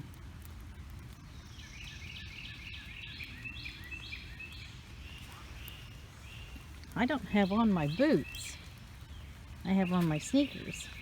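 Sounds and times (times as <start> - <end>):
low outdoor rumble: 0.0 - 11.0
songbird singing: 0.6 - 11.0.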